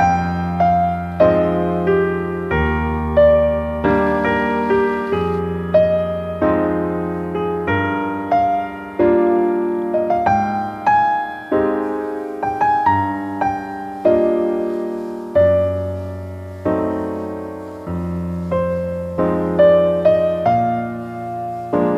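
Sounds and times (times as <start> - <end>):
slow piano music: 0.0 - 21.9.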